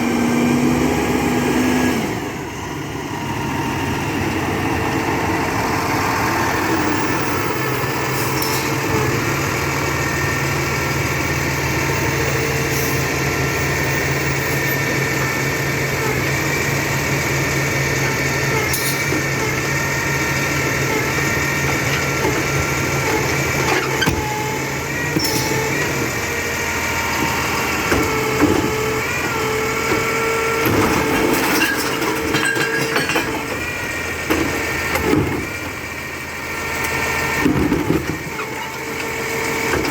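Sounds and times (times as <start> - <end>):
engine whine: 0.0 - 39.9
truck engine running: 0.0 - 39.9.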